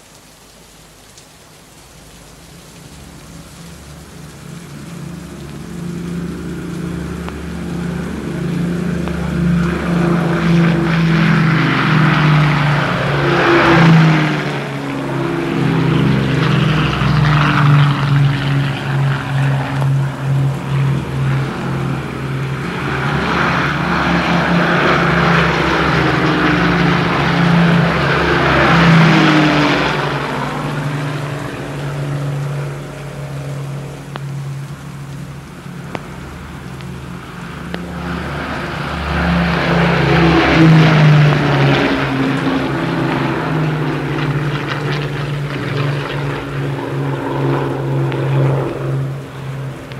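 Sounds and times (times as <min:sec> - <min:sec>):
propeller aircraft engines droning: 0:00.0 - 0:49.9.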